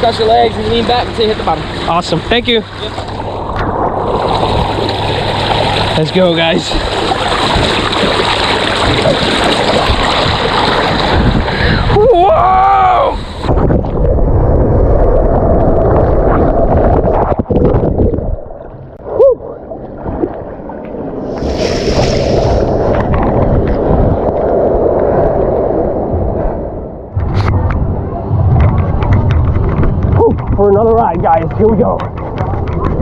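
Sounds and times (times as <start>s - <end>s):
water rushing through slide tube: 0.0s - 27.8s.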